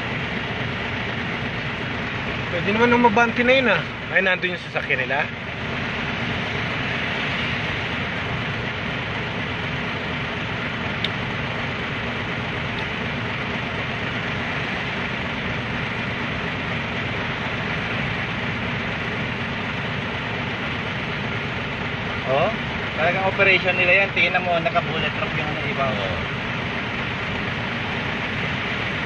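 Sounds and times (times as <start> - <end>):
road and traffic noise: 0.0 - 29.0
vehicle engine running: 0.0 - 29.0.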